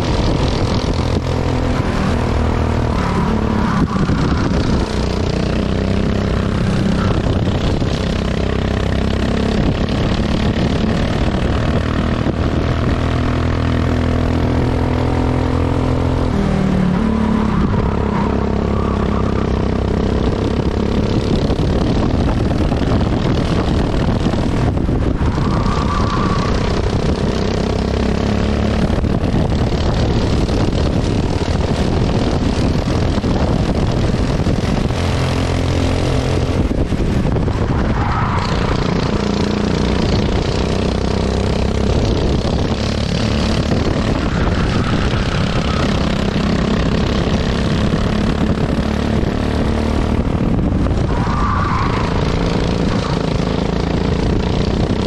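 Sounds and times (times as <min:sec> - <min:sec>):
kart engine running hard: 0:00.0 - 0:55.0.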